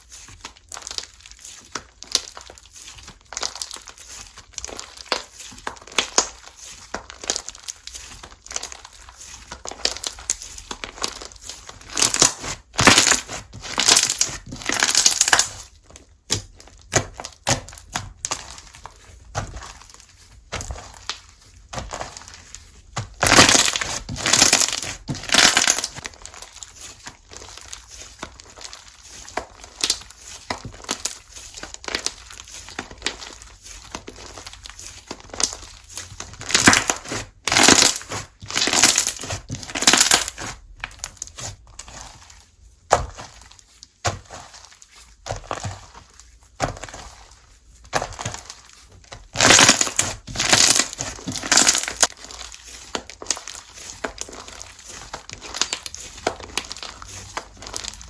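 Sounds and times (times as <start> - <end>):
hands squishing slime: 0.0 - 58.0.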